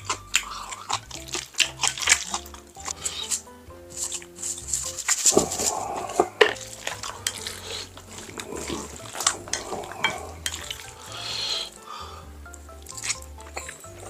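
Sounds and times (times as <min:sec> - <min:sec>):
utensils clinking against a dish: 0:00.0 - 0:11.2, 0:12.8 - 0:13.9
background music: 0:00.0 - 0:14.0.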